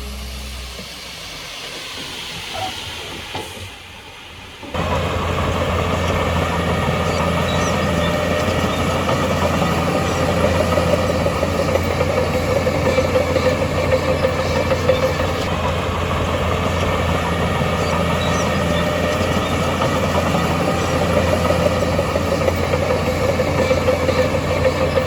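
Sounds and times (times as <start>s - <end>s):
earthmoving machine diesel engine: 0.0s - 25.0s.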